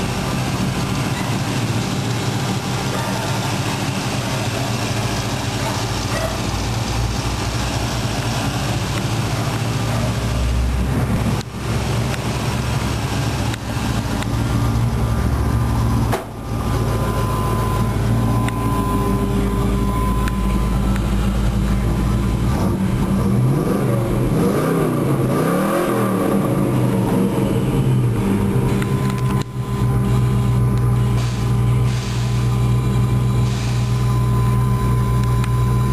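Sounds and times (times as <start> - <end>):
pickup engine idling and revving: 0.0 - 35.9.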